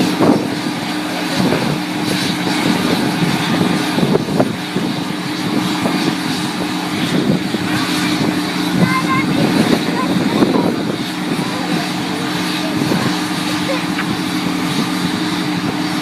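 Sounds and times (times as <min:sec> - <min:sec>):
high whine: 0:00.0 - 0:16.0
jet engines idling: 0:00.0 - 0:16.0.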